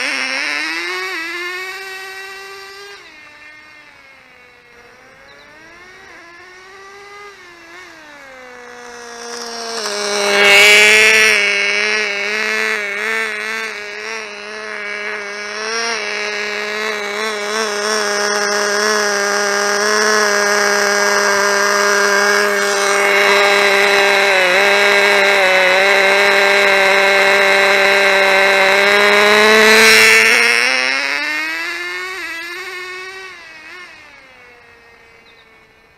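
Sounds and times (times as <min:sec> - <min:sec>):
small model engine high buzz: 0:00.0 - 0:35.9.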